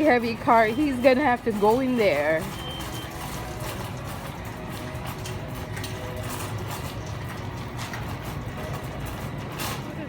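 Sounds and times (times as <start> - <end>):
metal shopping cart rattling: 0.0 - 10.0.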